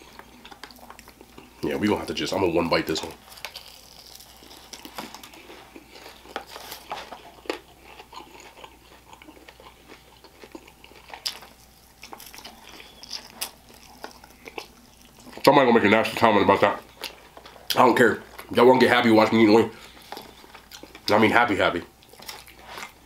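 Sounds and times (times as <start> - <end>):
person chewing crunchy chicken: 0.0 - 1.7, 2.8 - 15.5, 16.8 - 18.5, 19.7 - 21.1, 21.9 - 23.0.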